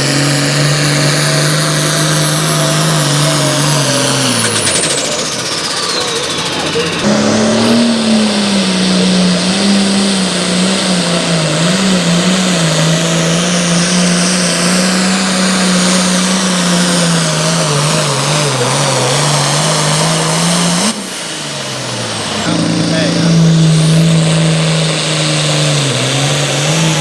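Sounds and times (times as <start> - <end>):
engine running under heavy load: 0.0 - 27.0.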